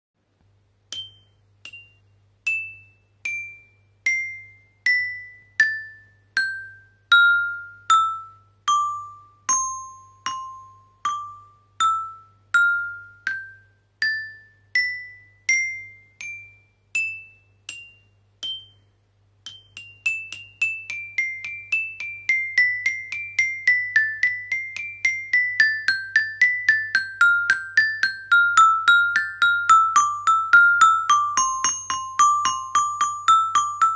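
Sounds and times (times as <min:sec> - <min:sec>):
glockenspiel notes: 0:00.9 - 0:33.9.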